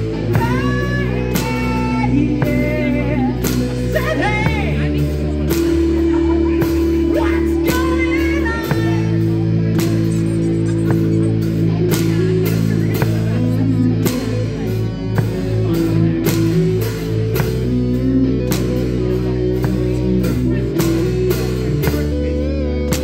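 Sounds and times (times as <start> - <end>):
drum kit: 0.0 - 23.0
guitar: 0.0 - 23.0
live rock band playing: 0.0 - 23.0.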